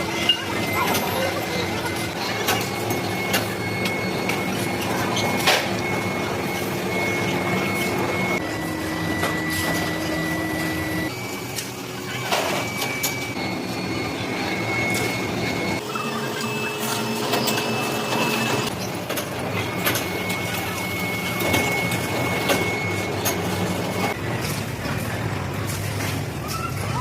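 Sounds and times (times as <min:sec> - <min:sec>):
machine tool humming and whining: 0:00.0 - 0:24.4.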